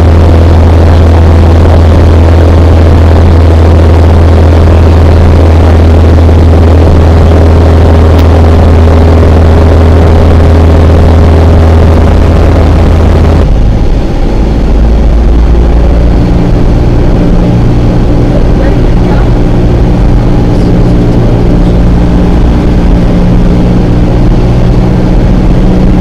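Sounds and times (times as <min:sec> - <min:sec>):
aircraft engine and propeller droning: 0:00.0 - 0:26.0.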